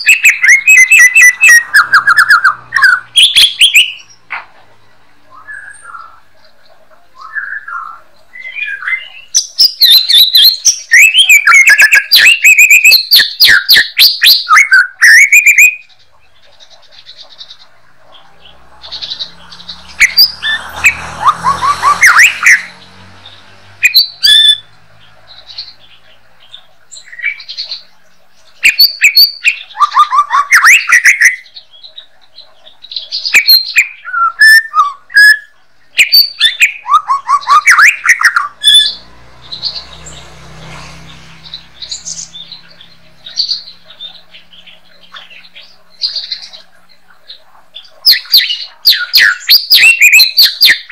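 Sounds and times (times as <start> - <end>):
bird singing whistles and trills: 0.0 - 4.2, 5.3 - 6.2, 7.2 - 50.9.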